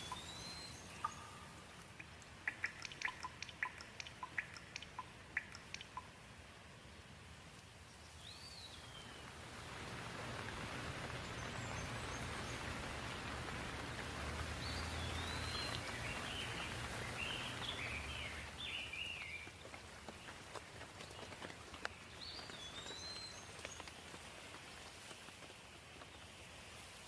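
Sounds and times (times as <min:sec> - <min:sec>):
birds chirping: 0:00.0 - 0:09.4, 0:10.3 - 0:26.4
steady rain: 0:00.0 - 0:27.0.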